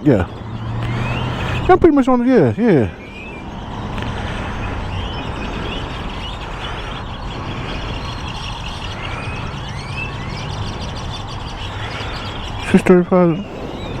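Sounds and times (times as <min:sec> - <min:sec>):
birds chirping: 0:00.0 - 0:14.0
traffic noise: 0:00.0 - 0:14.0.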